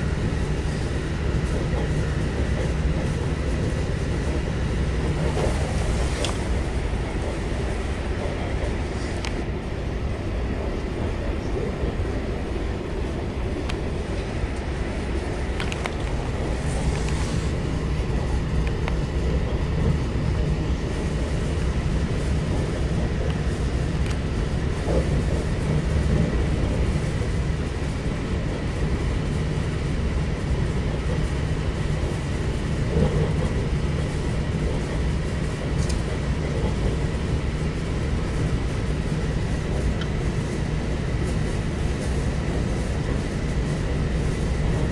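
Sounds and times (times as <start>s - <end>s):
electric train rolling rumble: 0.0s - 44.9s.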